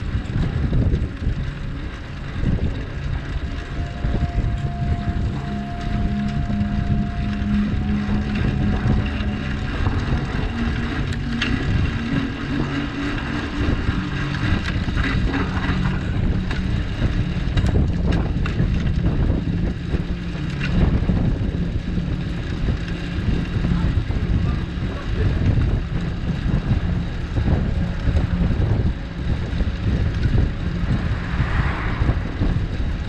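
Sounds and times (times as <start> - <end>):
low steady hum: 0.0 - 33.0
road rumble: 0.0 - 33.0
wind buffeting microphone: 0.0 - 33.0.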